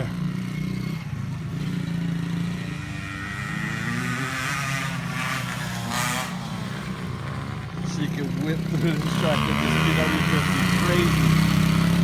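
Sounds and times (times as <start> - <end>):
dirt bike engine revving: 0.0 - 12.0
dirt bike engines running: 0.0 - 12.0.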